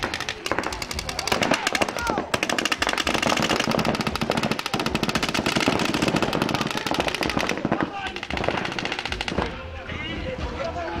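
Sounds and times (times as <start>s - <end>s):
paintball markers firing rapidly: 0.0s - 9.6s.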